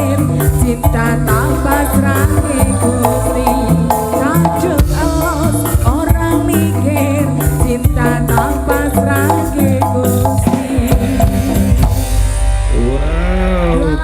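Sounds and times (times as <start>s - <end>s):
drumming and percussion: 0.0s - 13.0s
bass line: 0.0s - 14.0s
wavering sliding melody: 0.6s - 14.0s.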